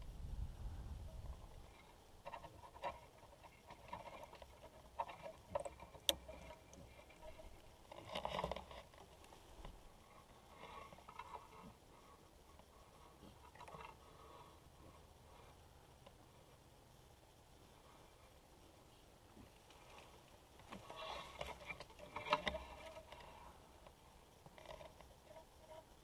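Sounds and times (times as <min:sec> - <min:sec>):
faint rustling: 0:00.0 - 0:26.0.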